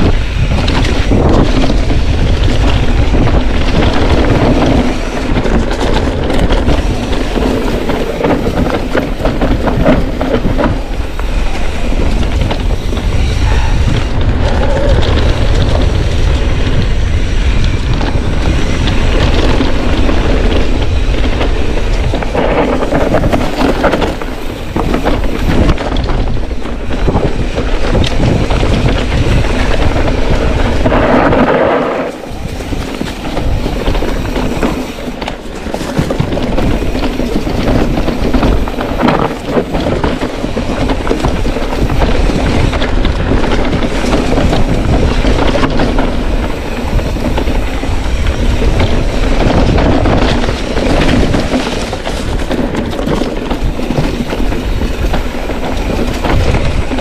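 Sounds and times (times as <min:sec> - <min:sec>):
bike rattling over rocky trail: 0:00.0 - 0:57.0
wind buffeting microphone: 0:00.0 - 0:57.0.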